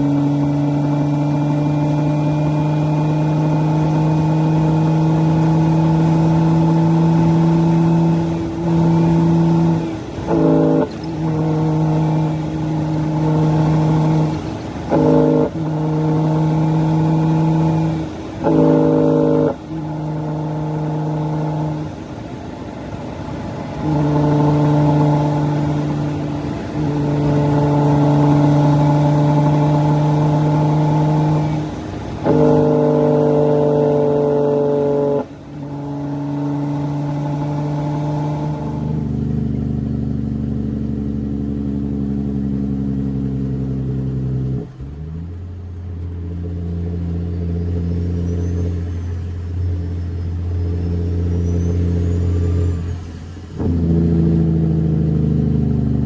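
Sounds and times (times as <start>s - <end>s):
dump truck diesel engine running: 0.0s - 56.0s.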